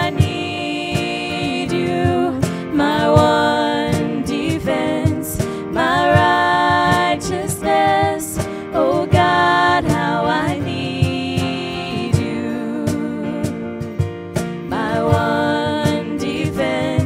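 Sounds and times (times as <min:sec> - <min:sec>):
instrumental accompaniment: 0:00.0 - 0:17.0.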